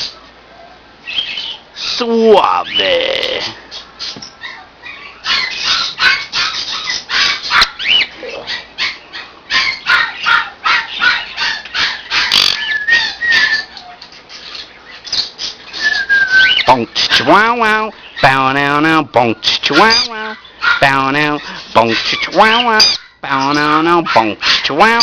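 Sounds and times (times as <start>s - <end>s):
parrot squawking and chattering: 1.0s - 25.0s.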